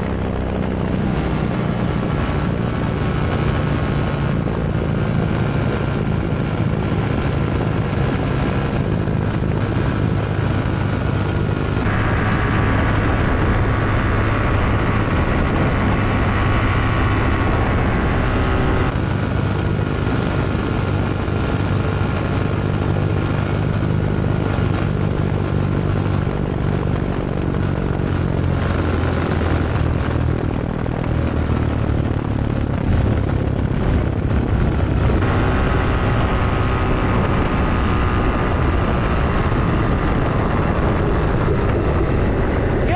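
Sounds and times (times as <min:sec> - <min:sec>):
aircraft engine and propeller drone: 0:00.0 - 0:42.9
wind noise: 0:00.0 - 0:42.9.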